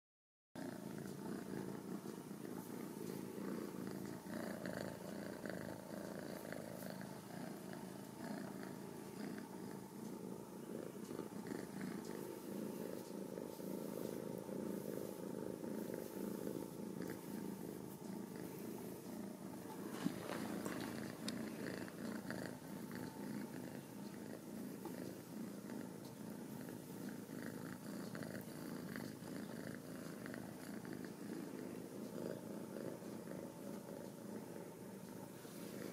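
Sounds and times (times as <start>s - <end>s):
kitten purring: 0.6s - 35.9s.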